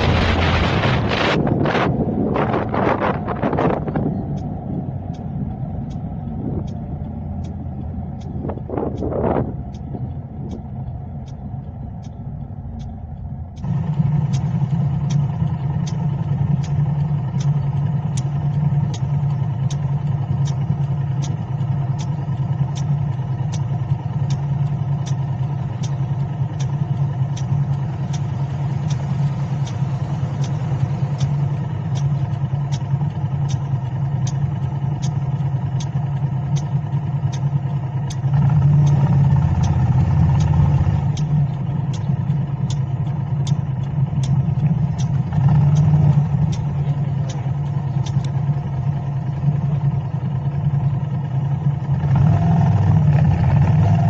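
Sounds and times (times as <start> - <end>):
car driving noise: 0.0 - 54.0
low hum: 0.0 - 54.0
steady ticking: 1.4 - 54.0.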